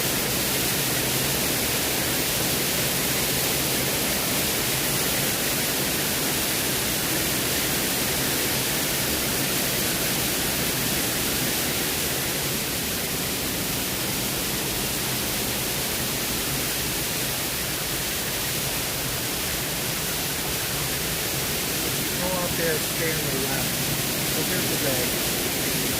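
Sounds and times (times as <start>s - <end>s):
waterfall rushing: 0.0s - 25.9s.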